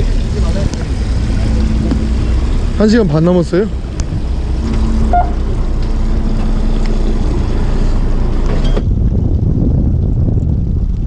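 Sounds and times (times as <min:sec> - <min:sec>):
boat engine drone: 0:00.0 - 0:09.5
water rushing past hull: 0:00.0 - 0:11.0
wind buffeting microphone: 0:00.0 - 0:11.0.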